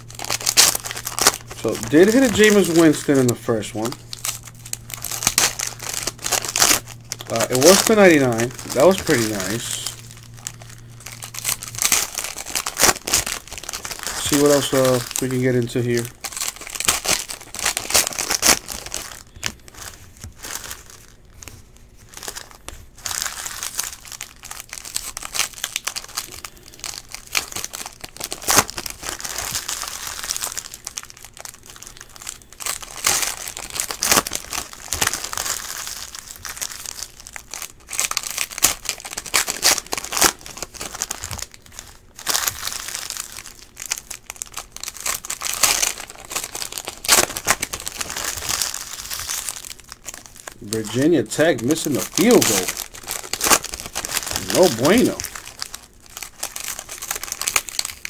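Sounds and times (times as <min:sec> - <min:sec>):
foil wrappers tearing and crinkling: 0:00.0 - 0:58.0.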